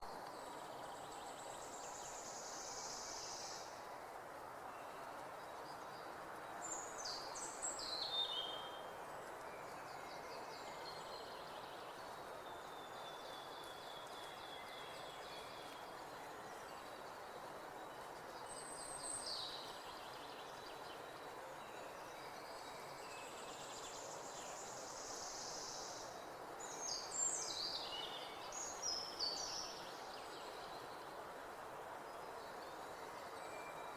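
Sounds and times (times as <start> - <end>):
outdoor background hiss: 0.0 - 33.9.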